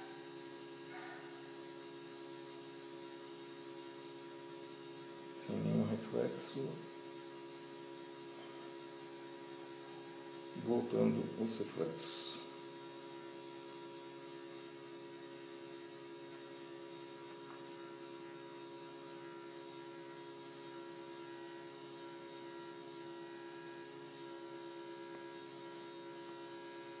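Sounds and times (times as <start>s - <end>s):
faint electrical hum: 0.0s - 27.0s.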